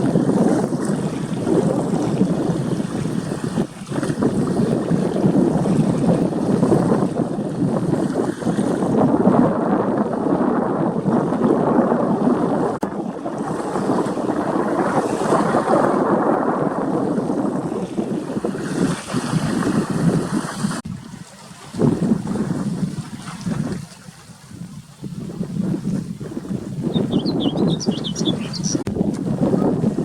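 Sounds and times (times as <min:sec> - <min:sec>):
waves washing on shore: 0:00.0 - 0:27.0, 0:27.7 - 0:30.0
wind buffeting microphone: 0:00.0 - 0:30.0.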